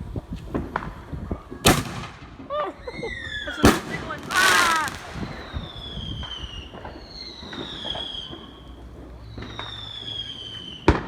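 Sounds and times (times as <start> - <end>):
distant fireworks popping: 0.1 - 11.0.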